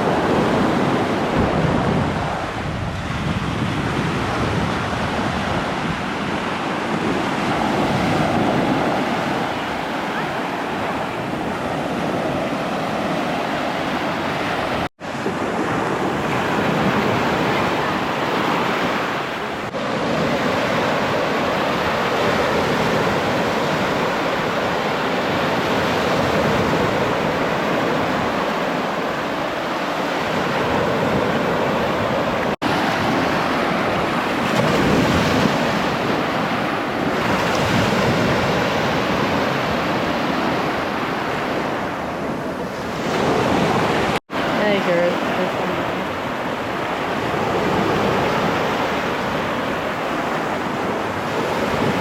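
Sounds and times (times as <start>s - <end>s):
surf washing up on beach: 0.0s - 52.0s
wind buffeting microphone: 0.0s - 52.0s.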